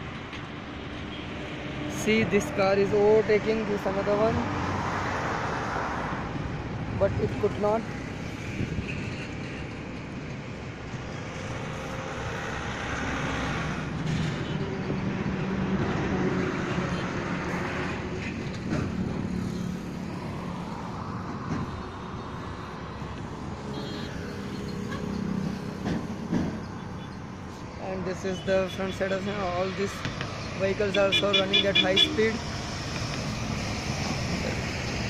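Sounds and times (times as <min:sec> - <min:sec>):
traffic passing at high speed: 0:00.0 - 0:35.0.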